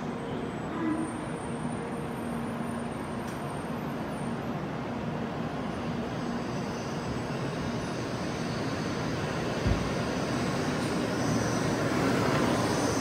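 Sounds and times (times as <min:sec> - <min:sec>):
train arriving rumble: 0:00.0 - 0:13.0.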